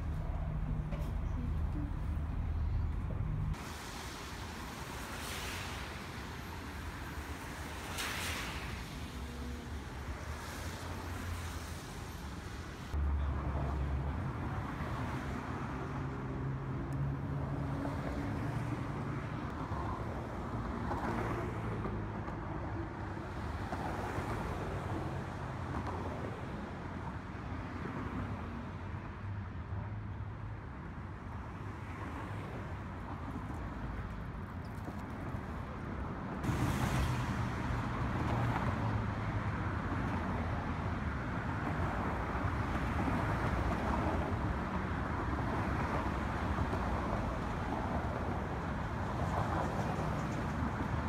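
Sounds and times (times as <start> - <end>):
road traffic: 0.0 - 51.0.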